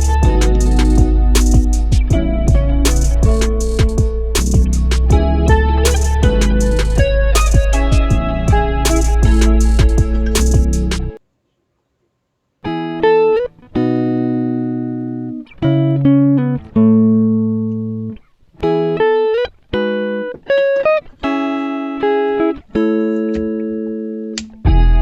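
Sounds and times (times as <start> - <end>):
plucked guitar music: 0.0 - 11.2, 12.6 - 25.0.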